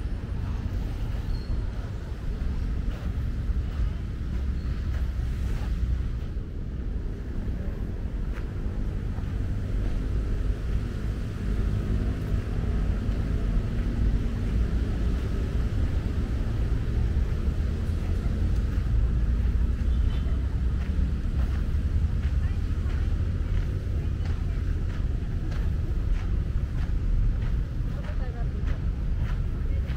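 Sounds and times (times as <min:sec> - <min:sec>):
traffic noise: 0:00.0 - 0:29.9.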